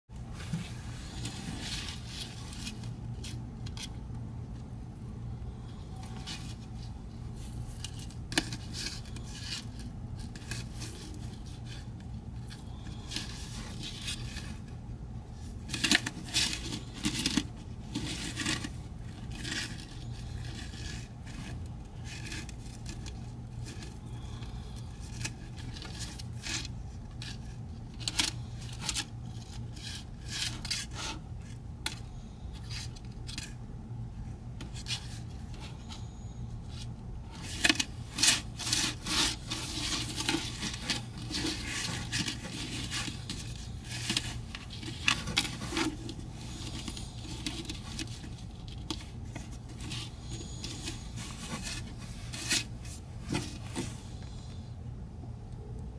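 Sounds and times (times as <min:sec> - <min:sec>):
faint low hum: 0:00.1 - 0:55.9.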